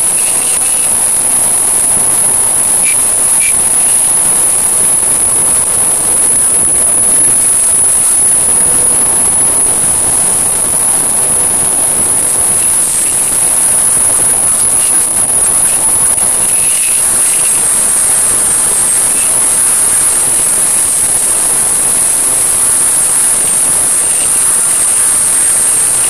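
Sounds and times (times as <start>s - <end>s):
high-pitched whine: 0.0s - 26.0s
loud static hiss: 0.0s - 26.0s.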